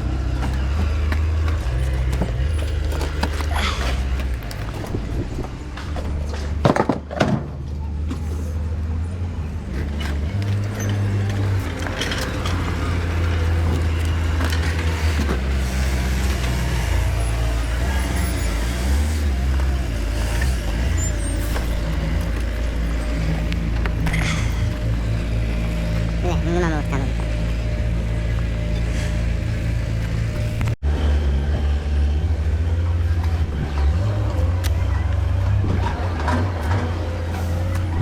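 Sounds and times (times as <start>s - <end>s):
engine rumbling: 0.0s - 38.0s.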